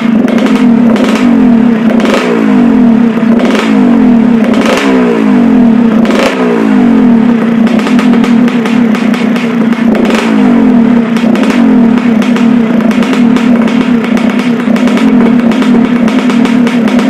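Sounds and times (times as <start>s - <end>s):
motorcycle engine throttle blips: 0.0s - 17.0s.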